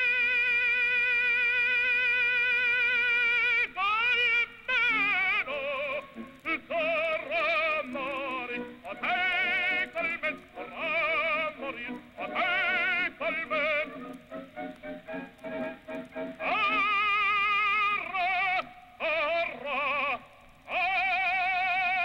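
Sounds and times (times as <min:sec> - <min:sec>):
person singing operatically: 0:00.0 - 0:22.0.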